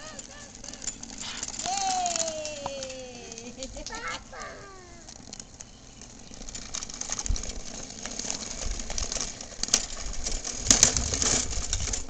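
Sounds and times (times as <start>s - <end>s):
push lawnmower clattering: 0.0s - 12.0s.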